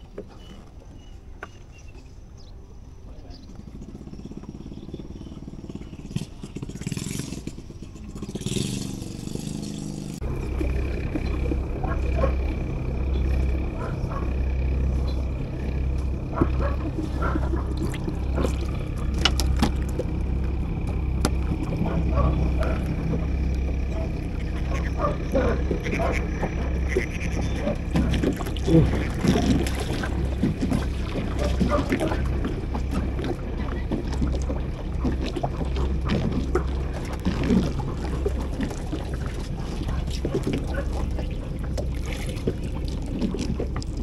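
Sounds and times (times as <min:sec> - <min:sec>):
steady low rumble: 0:01.7 - 0:44.0
water lapping against boat hull: 0:03.5 - 0:44.0.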